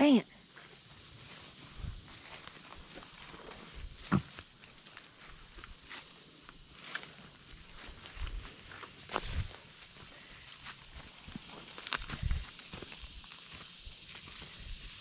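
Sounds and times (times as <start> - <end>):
high-pitched insect drone: 0.0 - 15.0
footsteps: 0.6 - 15.0.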